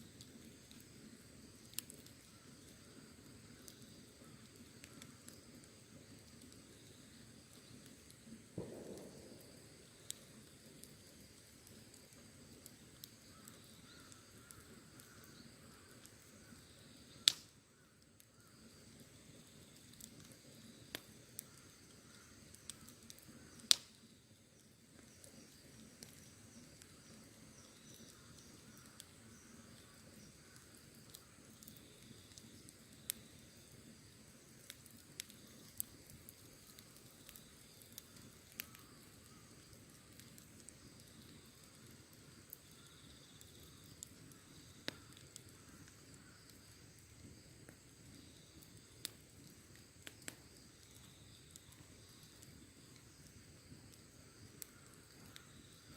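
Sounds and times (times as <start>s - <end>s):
bonfire crackling: 0.0s - 55.9s
loud snaps of fire: 0.0s - 55.9s.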